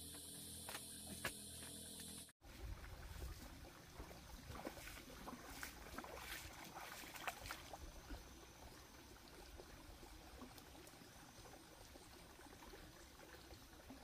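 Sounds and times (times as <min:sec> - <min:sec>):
stream trickling: 0:02.4 - 0:14.0
splashes and clicks in water: 0:02.8 - 0:14.0.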